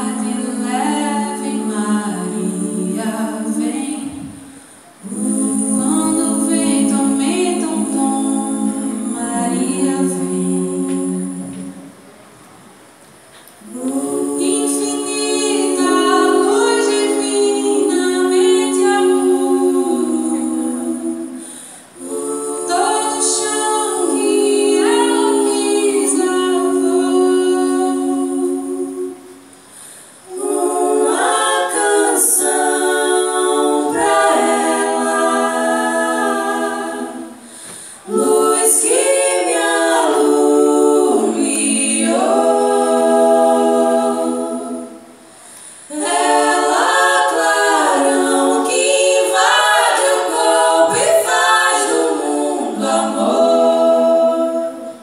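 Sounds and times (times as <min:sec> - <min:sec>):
women singing a cappella: 0:00.0 - 0:12.1, 0:13.4 - 0:55.0.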